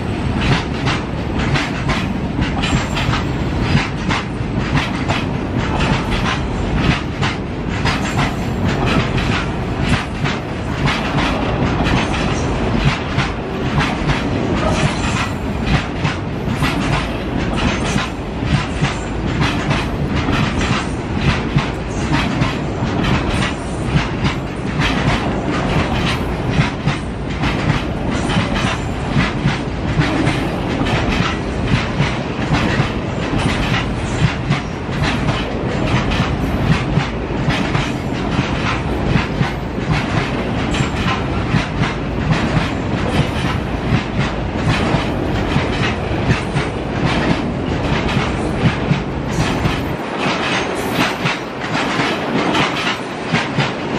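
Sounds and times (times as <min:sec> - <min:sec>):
freight train rumble: 0:00.0 - 0:53.9
wheels clacking over rail joints: 0:00.1 - 0:53.9.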